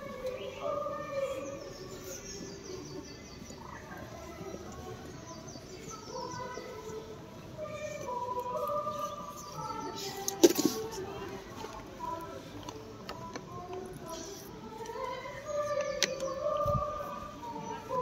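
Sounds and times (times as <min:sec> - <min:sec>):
birds singing: 0:00.0 - 0:11.4, 0:12.7 - 0:18.0
crowd murmur: 0:00.0 - 0:18.0.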